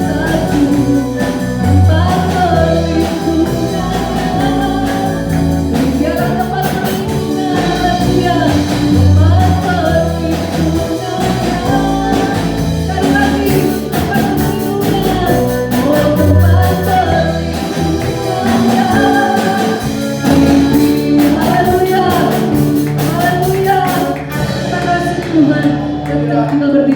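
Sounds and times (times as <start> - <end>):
band with guitar bass and drums: 0.0 - 26.9
person singing: 0.0 - 26.9.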